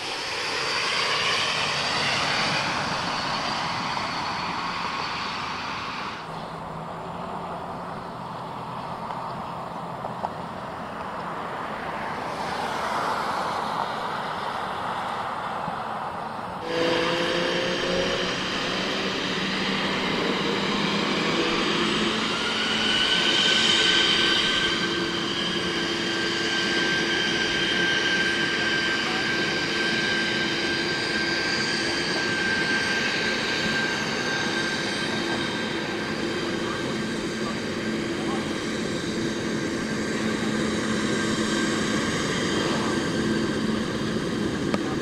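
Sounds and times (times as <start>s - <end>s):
jet engine high whine: 0.0s - 45.0s
jet engine hum and rushing: 0.0s - 45.0s.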